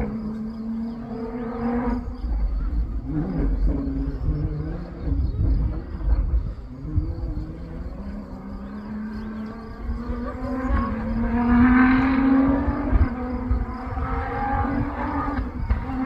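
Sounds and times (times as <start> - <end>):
engine approaching under load: 0.0 - 16.0.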